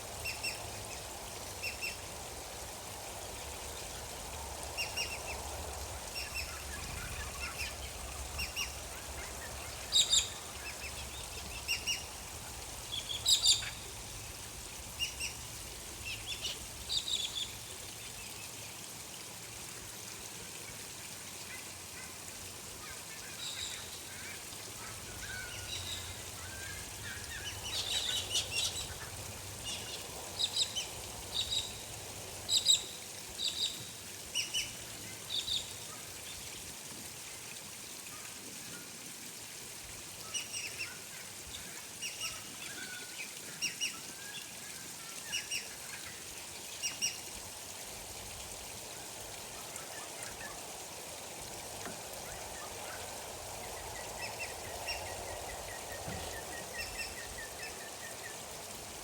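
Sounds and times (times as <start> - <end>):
gently flowing water: 0.0 - 59.0.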